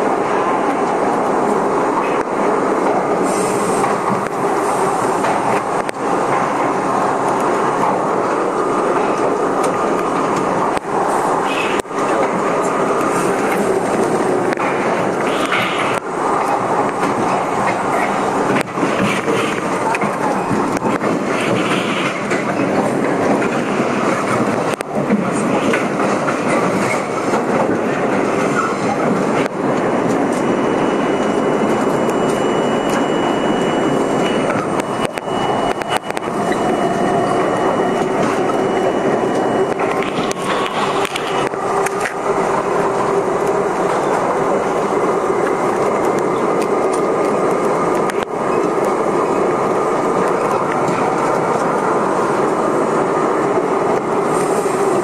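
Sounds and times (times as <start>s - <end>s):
subway train wheels rumbling on rail: 0.0s - 55.0s.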